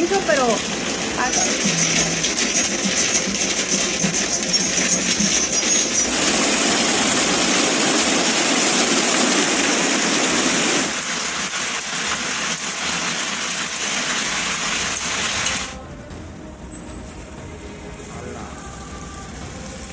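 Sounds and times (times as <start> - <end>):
hail and heavy rain pelting: 0.0 - 19.9.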